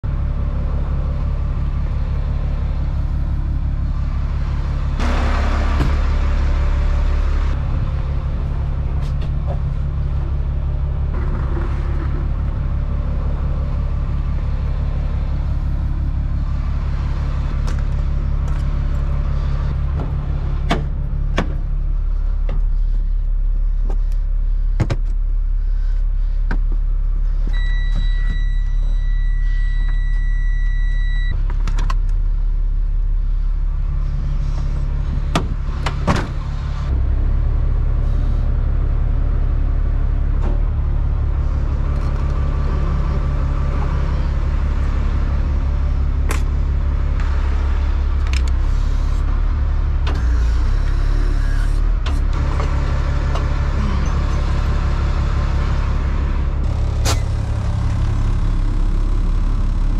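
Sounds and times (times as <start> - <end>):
diesel truck engine idling: 0.0 - 31.4, 32.0 - 59.9.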